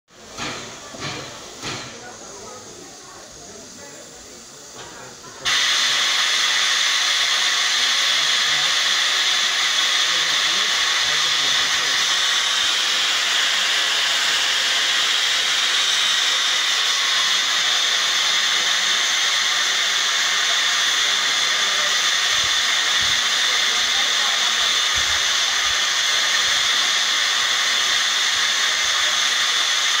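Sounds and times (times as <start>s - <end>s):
steam locomotive venting steam: 0.1s - 30.0s.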